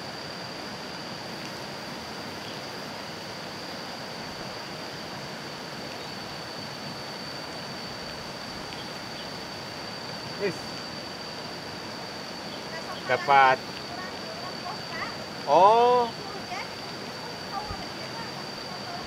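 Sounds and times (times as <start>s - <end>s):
high-pitched insect whine: 0.0s - 19.0s.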